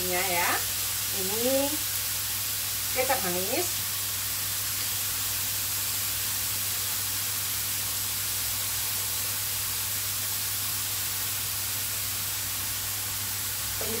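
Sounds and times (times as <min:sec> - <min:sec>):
mushrooms sizzling in oil: 0:00.0 - 0:14.0.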